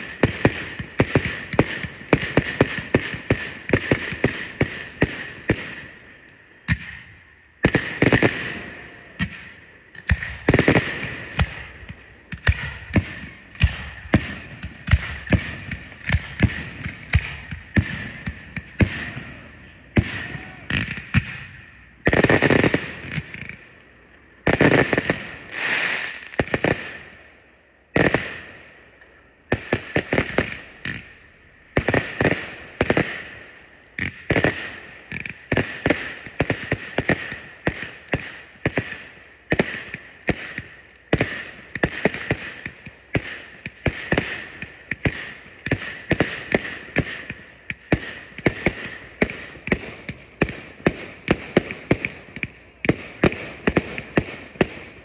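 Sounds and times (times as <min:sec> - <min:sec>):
fireworks hissing and crackling: 0:00.0 - 0:07.0, 0:07.6 - 0:55.0
fireworks bangs: 0:00.0 - 0:23.8, 0:24.4 - 0:27.3, 0:27.9 - 0:55.0.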